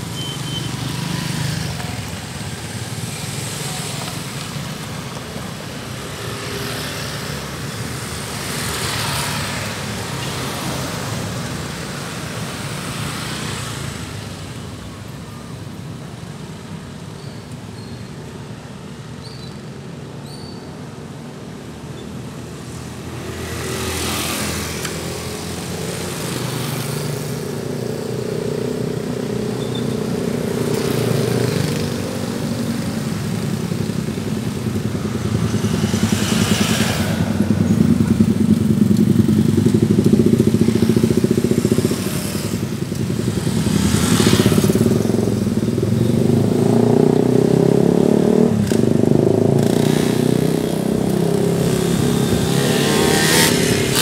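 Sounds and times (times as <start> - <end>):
car engines passing: 0.0 - 17.1, 21.4 - 54.0
motorcycle engines passing: 0.0 - 17.1, 20.5 - 54.0.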